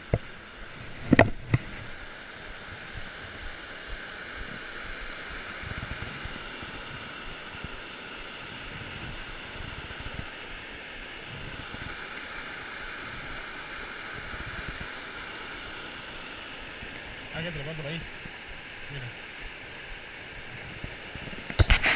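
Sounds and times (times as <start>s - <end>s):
water rushing over rocks: 0.0s - 21.9s.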